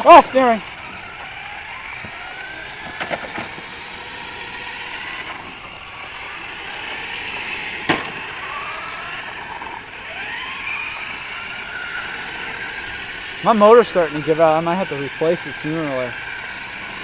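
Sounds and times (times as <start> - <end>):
toy car electric motors whining: 0.0 - 17.0.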